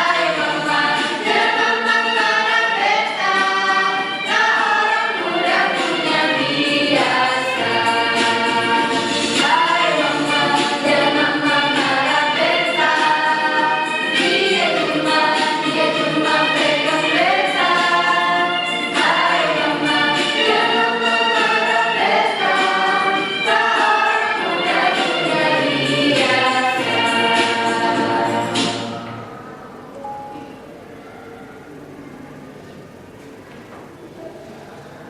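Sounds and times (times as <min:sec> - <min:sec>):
choir singing chords: 0:00.0 - 0:33.0.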